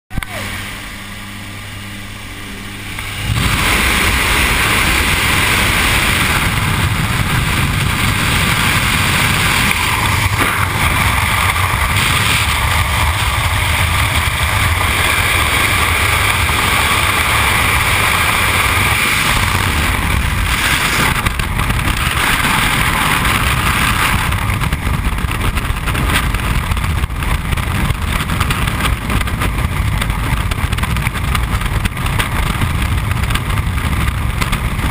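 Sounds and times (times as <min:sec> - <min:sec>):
plane engine drone: 0:00.1 - 0:34.9
wind rushing: 0:02.7 - 0:34.9.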